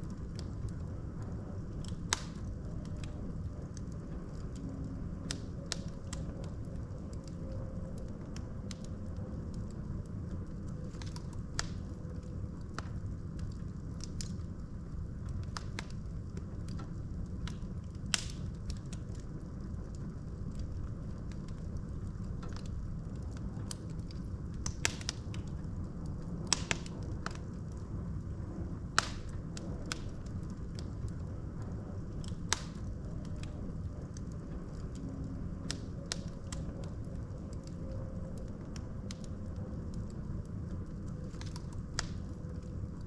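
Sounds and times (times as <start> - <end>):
fire rumbling: 0.0 - 43.0
logs crackling and popping: 0.0 - 43.0.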